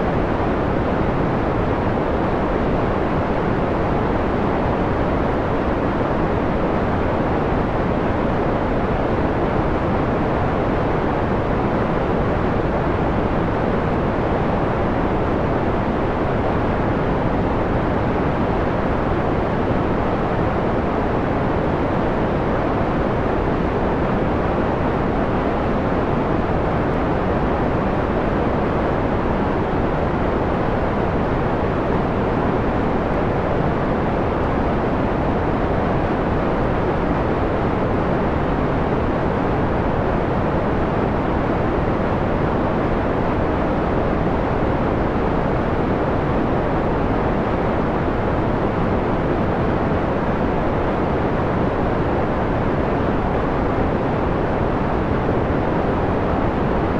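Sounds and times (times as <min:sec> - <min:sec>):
filtered white noise: 0:00.0 - 0:56.9.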